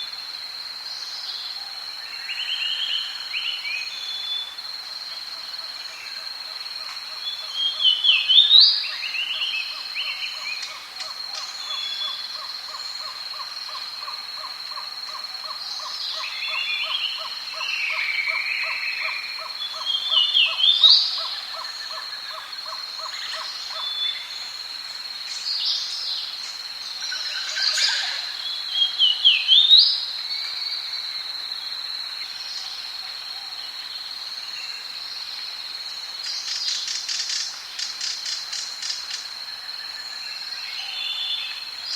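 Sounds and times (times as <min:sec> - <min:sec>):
insect drone: 0:00.0 - 0:41.9.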